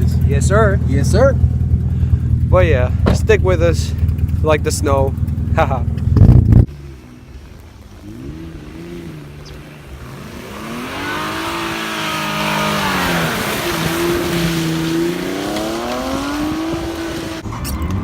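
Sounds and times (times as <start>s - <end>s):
car engine revving: 0.0s - 18.0s
tyres spinning on snow: 0.1s - 18.0s.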